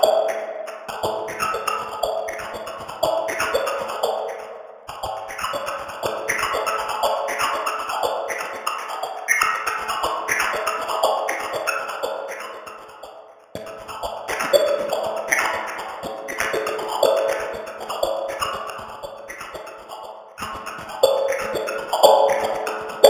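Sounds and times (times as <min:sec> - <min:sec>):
warbling phased music: 0:00.0 - 0:23.0.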